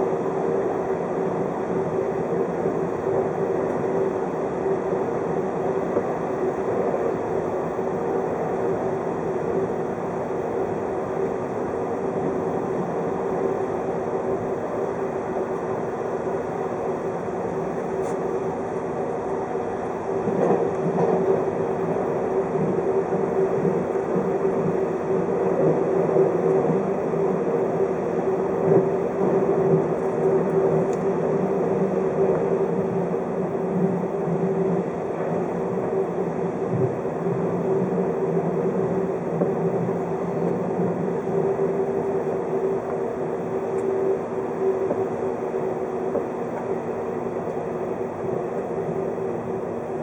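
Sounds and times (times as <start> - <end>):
electric train rolling rumble: 0.0 - 50.0.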